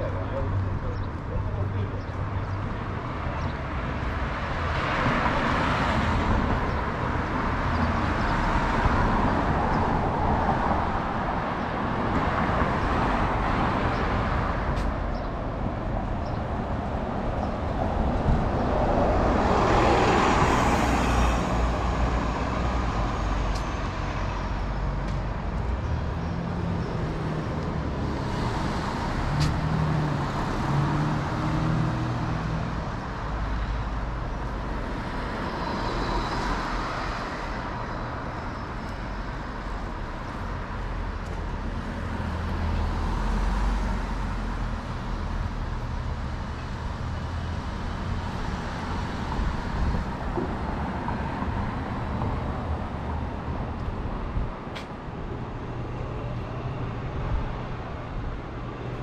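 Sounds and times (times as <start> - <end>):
low rumble of cars: 0.0 - 59.0
vehicles passing: 0.0 - 59.0.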